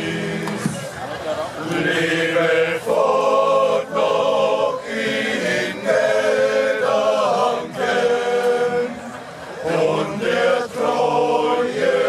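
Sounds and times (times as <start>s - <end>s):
group singing folk song: 0.0s - 12.0s.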